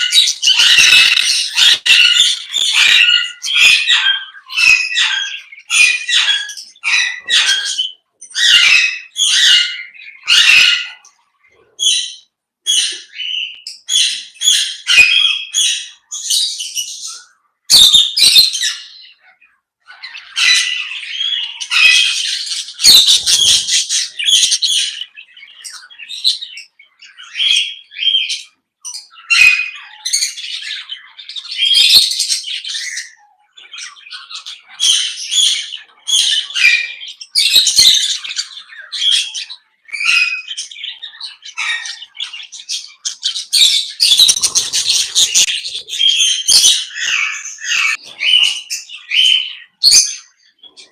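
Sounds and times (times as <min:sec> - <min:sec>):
parrots squawking and chirping: 0:00.0 - 0:50.9.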